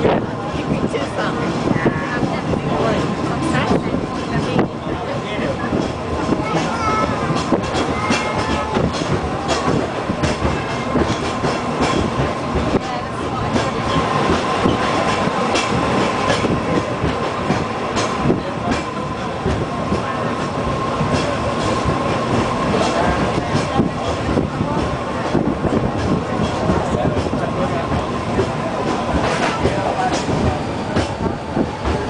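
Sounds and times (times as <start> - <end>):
wheels rumbling on rails: 0.0 - 32.0.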